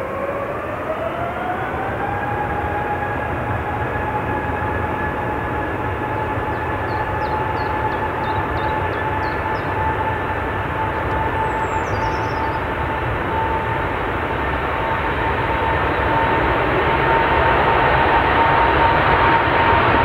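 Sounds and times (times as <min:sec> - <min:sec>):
jet engines whining and roaring: 0:00.0 - 0:20.0.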